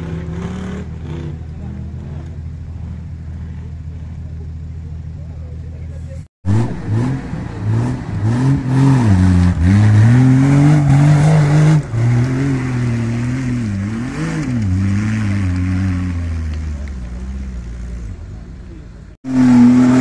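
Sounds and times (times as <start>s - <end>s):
engine revving under load: 0.0s - 4.2s, 6.4s - 18.2s, 19.2s - 20.0s.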